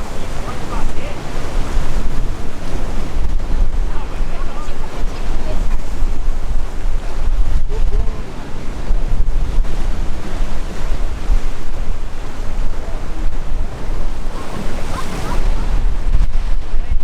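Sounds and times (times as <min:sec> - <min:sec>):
waves crashing: 0:00.0 - 0:17.0
wind buffeting microphone: 0:00.0 - 0:17.0.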